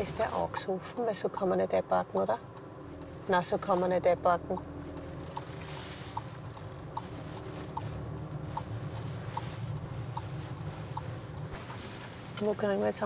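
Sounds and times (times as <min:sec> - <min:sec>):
engine and road noise: 0:00.0 - 0:13.0
turn signal ticking: 0:00.0 - 0:13.0.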